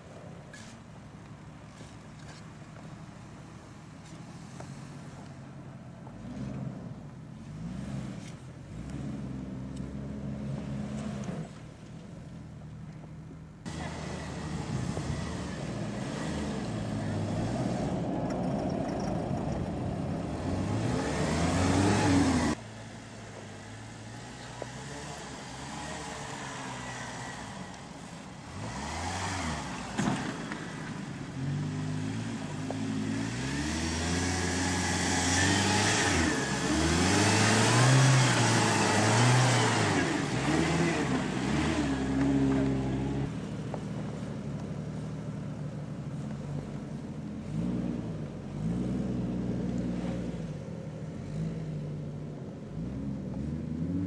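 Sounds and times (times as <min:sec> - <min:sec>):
engines revving in sand: 0:06.0 - 0:11.8, 0:13.6 - 0:54.0.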